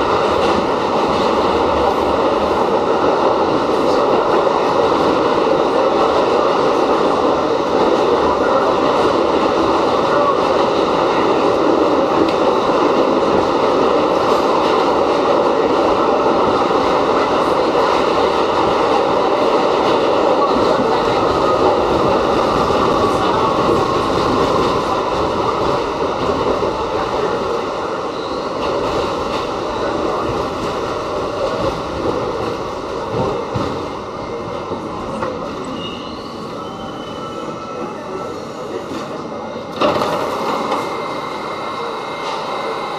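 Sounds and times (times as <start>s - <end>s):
train wheels rumbling and rattling: 0.0s - 42.9s.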